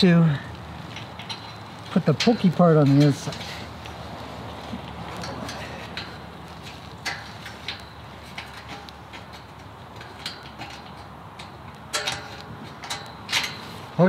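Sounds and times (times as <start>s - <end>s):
light metal clicks and taps: 0.9s - 14.0s.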